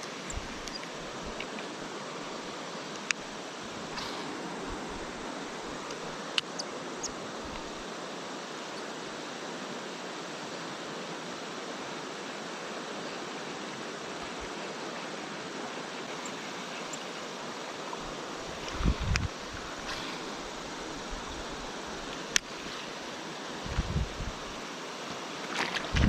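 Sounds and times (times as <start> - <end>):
river flowing over rocks: 0.0 - 26.0.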